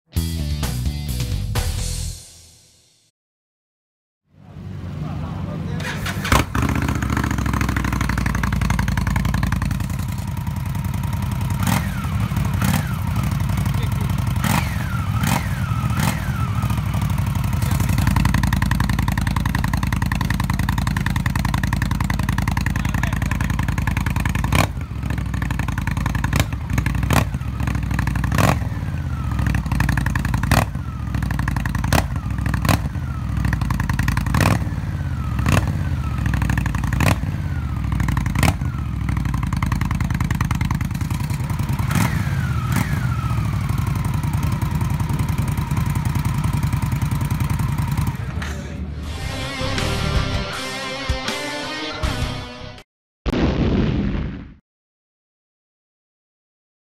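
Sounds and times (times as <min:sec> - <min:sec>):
motorcycle engine revving: 0:04.4 - 0:50.4.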